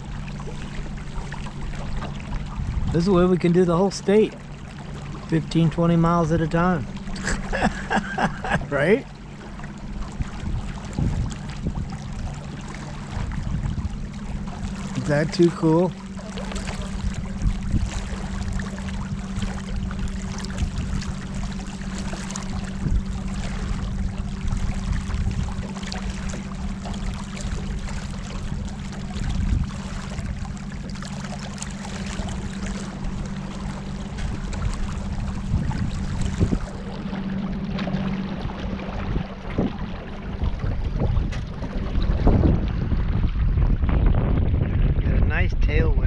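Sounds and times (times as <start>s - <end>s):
low motor hum: 0.0s - 46.0s
water splashing against hull: 0.0s - 46.0s.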